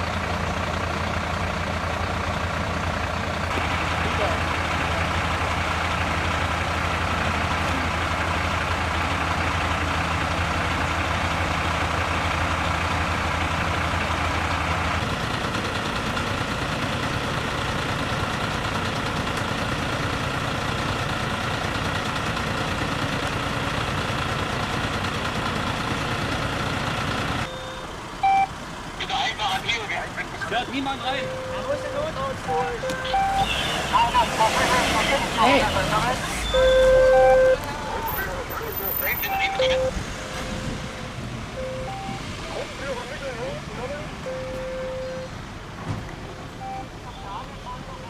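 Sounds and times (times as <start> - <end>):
heavy truck engine running: 0.0 - 48.0.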